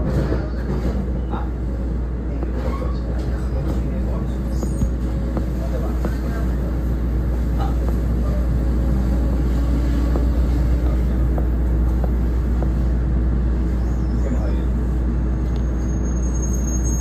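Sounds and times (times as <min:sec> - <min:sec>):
train car rumbling on rails: 0:00.0 - 0:17.0.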